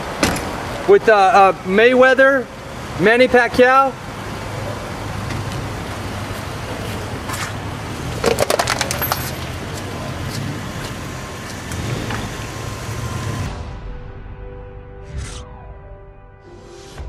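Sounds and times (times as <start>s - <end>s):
street traffic engine hum: 0.0s - 13.7s.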